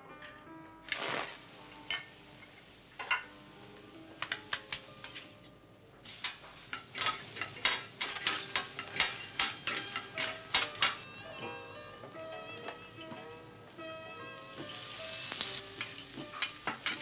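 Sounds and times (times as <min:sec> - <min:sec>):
metal utensils clacking on griddle: 0:00.2 - 0:03.5, 0:04.2 - 0:05.4, 0:06.0 - 0:13.4, 0:14.6 - 0:17.0.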